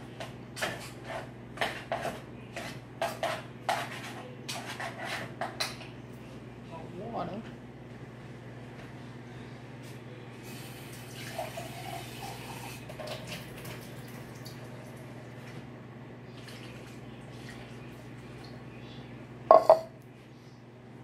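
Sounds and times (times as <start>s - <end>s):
steady low hum: 0.0s - 11.1s, 14.0s - 21.0s.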